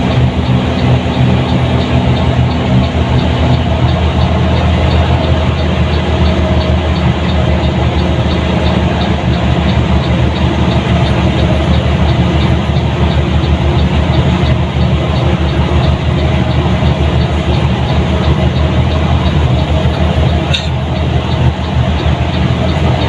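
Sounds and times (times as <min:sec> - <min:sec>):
bus diesel engine running: 0:00.0 - 0:23.0
faint regular ticking: 0:00.0 - 0:23.0.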